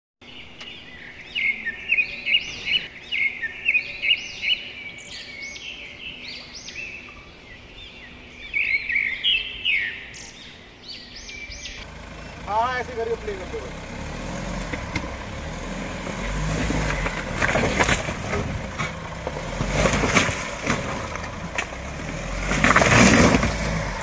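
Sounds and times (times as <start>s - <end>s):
birds chirping: 0.2s - 24.0s.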